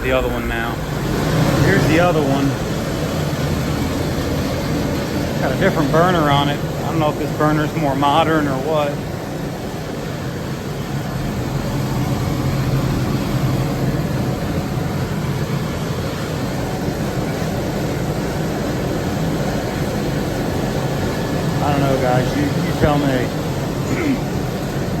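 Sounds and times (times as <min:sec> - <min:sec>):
burner fan and flame rushing: 0:00.0 - 0:25.0
low hum: 0:00.0 - 0:25.0.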